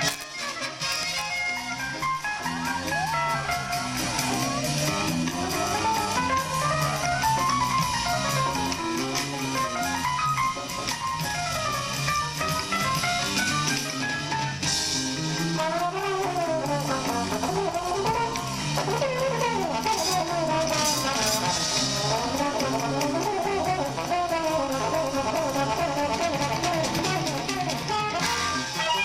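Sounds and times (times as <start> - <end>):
drum kit: 0.0 - 29.0
jazz music: 0.0 - 29.0
trombone: 0.0 - 29.0
trumpet: 0.0 - 29.0.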